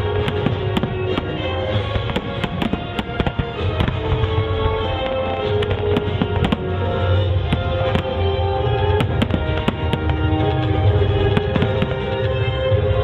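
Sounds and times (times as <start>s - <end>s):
fireworks cracking and popping: 0.0s - 13.0s
loud music playing: 0.0s - 13.0s.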